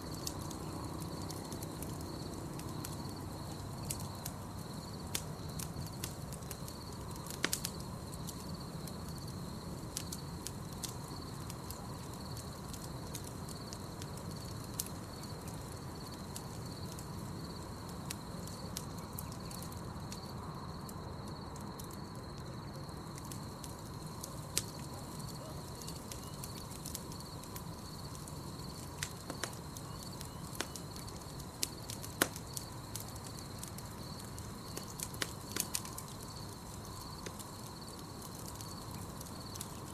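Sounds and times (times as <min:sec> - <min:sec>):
campfire crackling and popping: 0:00.0 - 0:39.9
night insects trilling: 0:00.0 - 0:39.9.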